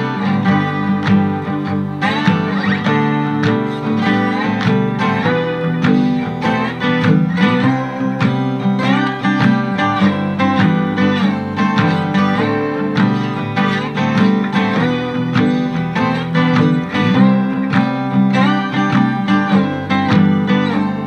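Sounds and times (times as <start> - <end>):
picked acoustic guitar bluegrass: 0.0 - 21.0.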